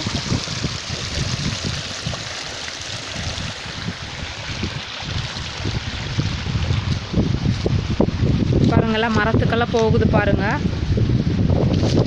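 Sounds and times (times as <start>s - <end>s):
water flowing in a channel: 0.0s - 12.0s
wind buffeting microphone: 0.0s - 12.0s.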